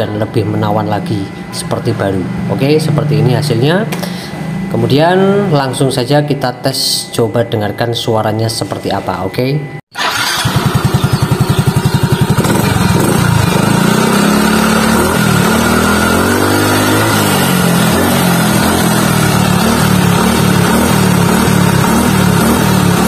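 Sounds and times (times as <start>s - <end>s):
scooter engine idling and revving: 0.0s - 6.3s, 10.0s - 23.0s.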